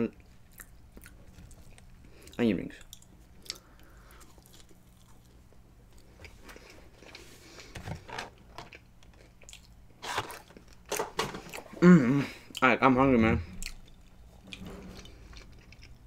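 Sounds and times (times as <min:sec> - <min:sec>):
faint low hum: 0:00.0 - 0:16.0
chewing and crunching fried food: 0:00.1 - 0:12.7, 0:13.5 - 0:16.0.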